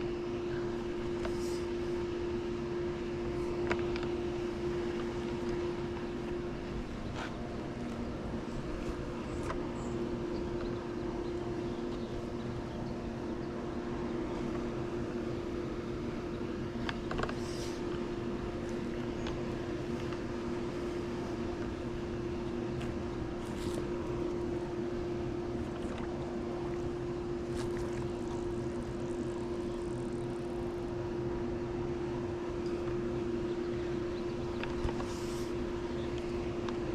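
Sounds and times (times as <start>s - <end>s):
pool pump motor humming: 0.0s - 36.9s.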